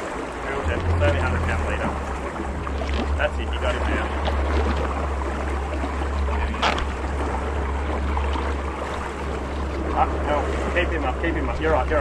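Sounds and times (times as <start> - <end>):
boat engine rumble: 0.0 - 12.0
water splashing and sloshing: 0.0 - 12.0.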